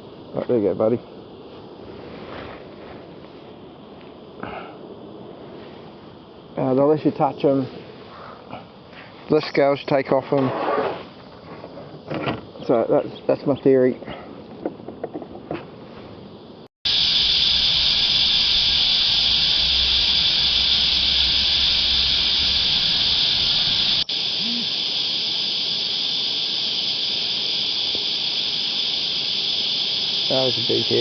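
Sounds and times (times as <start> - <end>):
cicadas droning: 0.0 - 31.0.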